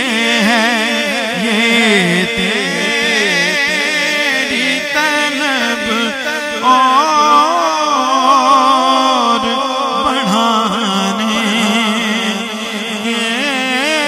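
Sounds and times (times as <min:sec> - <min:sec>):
man singing through microphone: 0:00.0 - 0:14.0.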